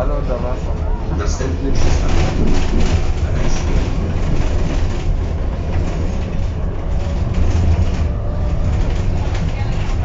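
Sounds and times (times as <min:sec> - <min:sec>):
tram wheels rumbling on rail: 0:00.0 - 0:10.0.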